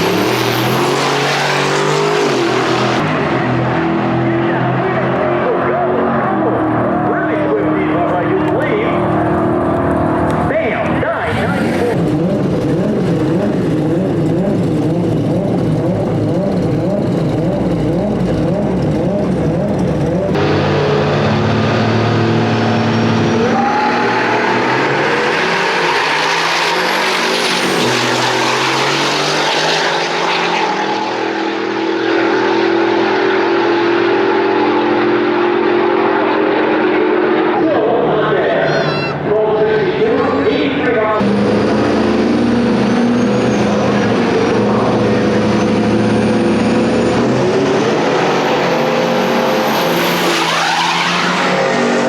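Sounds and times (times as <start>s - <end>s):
engine pulling through gears: 0.0s - 38.0s, 39.3s - 52.0s
truck engine revving: 0.0s - 52.0s.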